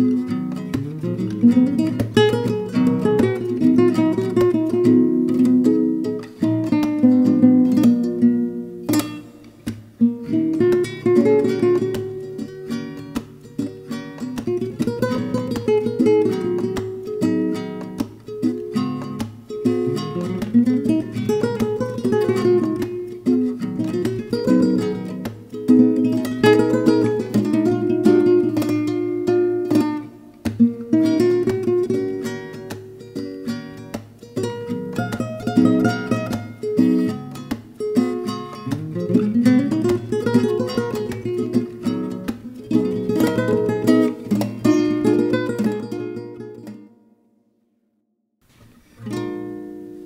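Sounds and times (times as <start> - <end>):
acoustic guitar melody: 0.0 - 47.5, 48.4 - 50.0.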